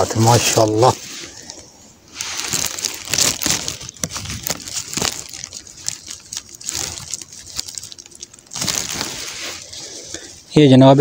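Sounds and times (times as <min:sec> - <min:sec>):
brush rustling and crackling: 0:00.0 - 0:10.4.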